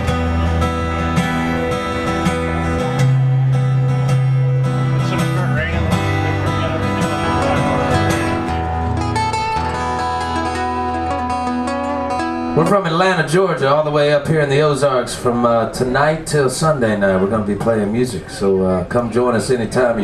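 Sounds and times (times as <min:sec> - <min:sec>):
acoustic guitars playing: 0:00.0 - 0:18.4.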